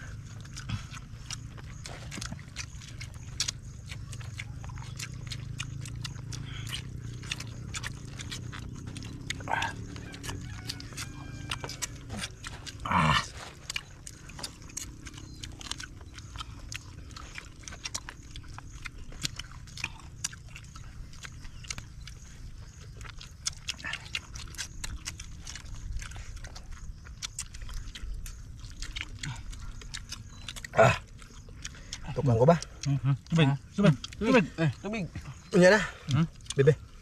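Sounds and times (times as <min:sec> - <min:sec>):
people chewing and lip-smacking: 0:00.0 - 0:37.0.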